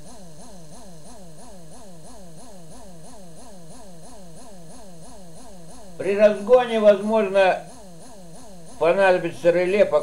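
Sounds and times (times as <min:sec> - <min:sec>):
small electric motor buzzing hum: 0:00.0 - 0:10.0.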